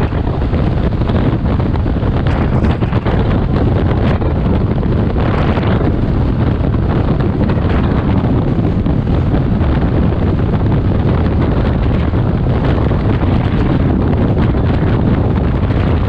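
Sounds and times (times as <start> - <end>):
road and engine noise: 0.0 - 16.0
wind buffeting microphone: 0.0 - 16.0.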